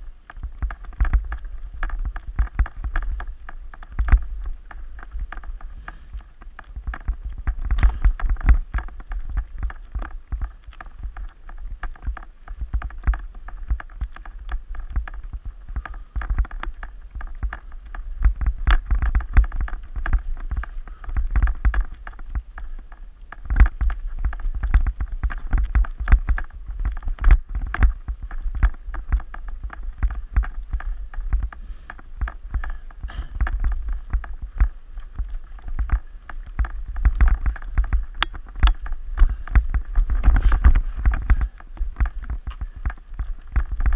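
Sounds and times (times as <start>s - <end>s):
bike clattering and rattling: 0.0s - 43.9s
low rumble: 0.0s - 43.9s.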